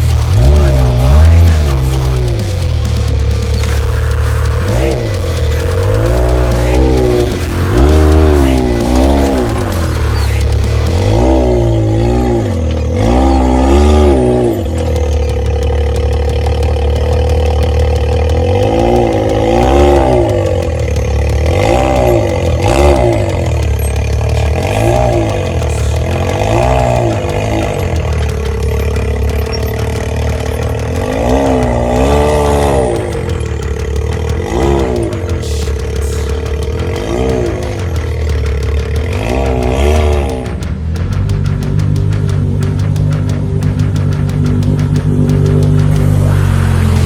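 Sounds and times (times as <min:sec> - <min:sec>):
low running drone: 0:00.0 - 0:47.0
off-road vehicle engine revving: 0:00.0 - 0:47.0.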